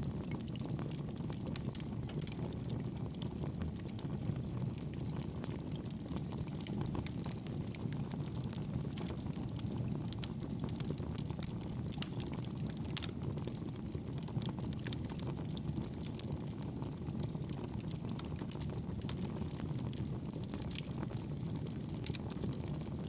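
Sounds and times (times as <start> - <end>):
fire crackling in fireplace: 0.0 - 23.0.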